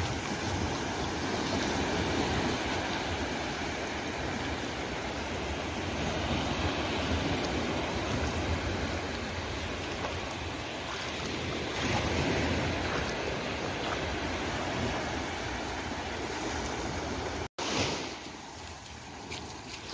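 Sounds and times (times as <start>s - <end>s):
small waves washing over sand: 0.0s - 19.9s.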